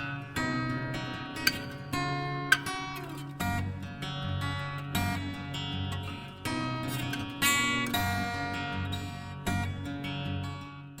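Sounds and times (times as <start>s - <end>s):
strummed acoustic guitar chord: 0.0s - 10.9s.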